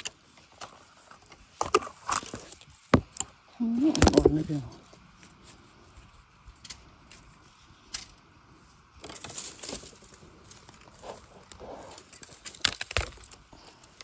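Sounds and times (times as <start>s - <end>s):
dry bamboo and leaves crackling: 0.0s - 14.0s.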